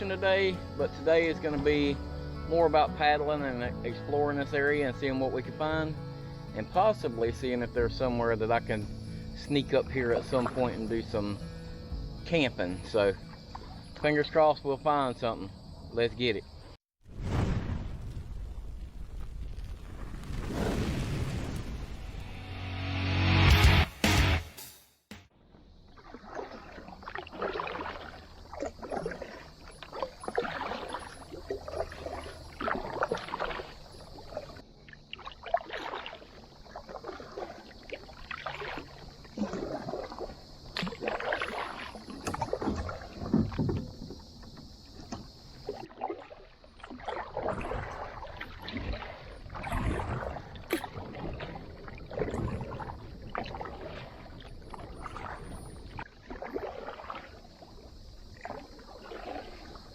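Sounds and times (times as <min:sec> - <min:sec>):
paddles splashing in water: 0:00.0 - 0:15.4, 0:25.4 - 0:59.9.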